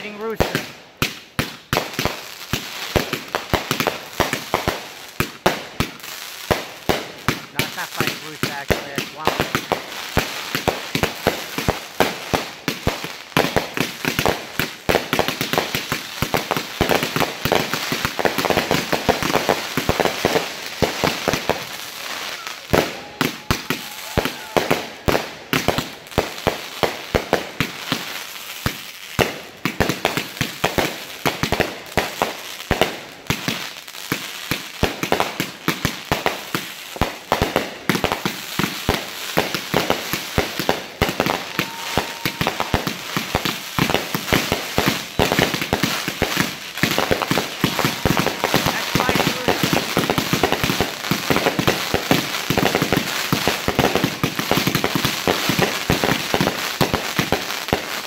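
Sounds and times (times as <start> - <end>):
fireworks bursting: 0.0 - 58.0
fireworks crackle: 0.0 - 58.0.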